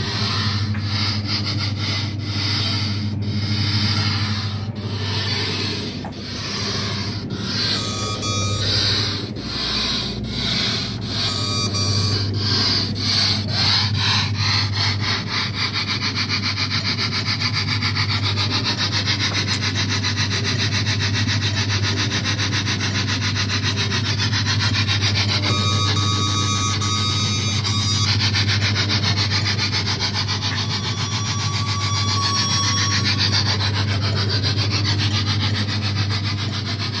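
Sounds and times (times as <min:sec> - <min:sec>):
steady low hum: 0:00.0 - 0:37.0
steam-train chuffing sound effect: 0:00.0 - 0:37.0.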